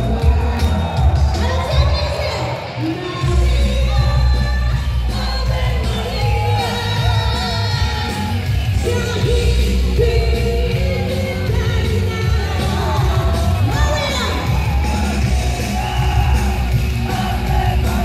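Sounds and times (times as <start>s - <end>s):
steady drum beat: 0.0s - 2.2s, 3.2s - 18.0s
woman singing pop song: 0.0s - 18.0s.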